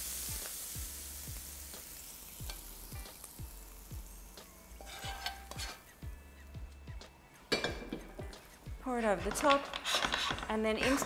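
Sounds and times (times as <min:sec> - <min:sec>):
butter sizzling and crackling: 0:00.0 - 0:06.6, 0:08.0 - 0:11.0.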